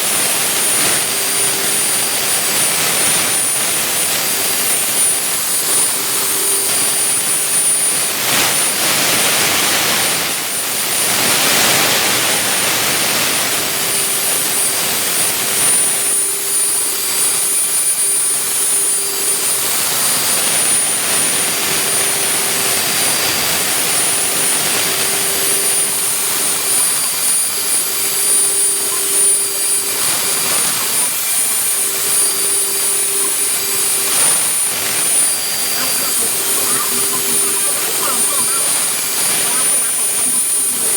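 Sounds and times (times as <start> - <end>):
milling machine running: 0.0 - 40.9.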